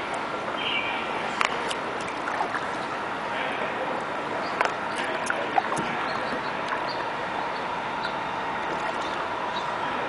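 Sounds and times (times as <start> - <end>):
water noise from moving boat: 0.0 - 10.0.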